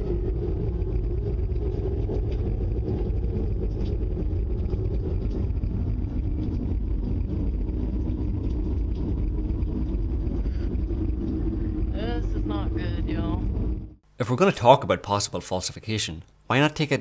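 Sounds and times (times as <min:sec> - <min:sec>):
deep rumbling drone from sky: 0:00.0 - 0:14.0.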